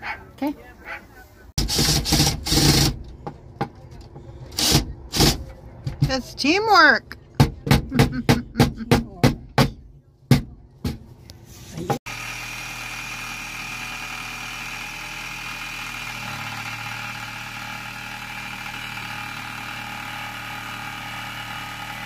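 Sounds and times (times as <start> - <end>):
engine-like hum: 0.2 - 22.0.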